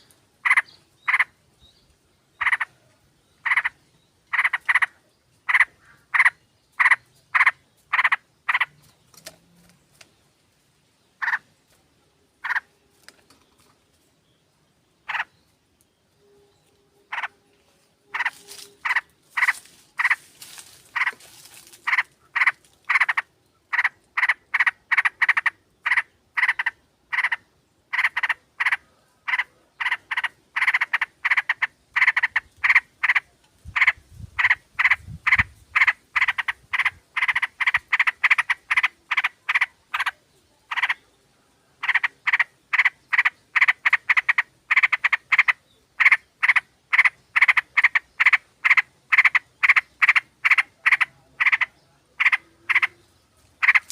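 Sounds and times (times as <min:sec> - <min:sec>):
bulbuls chattering: 0:00.0 - 0:14.2, 0:17.0 - 0:53.9.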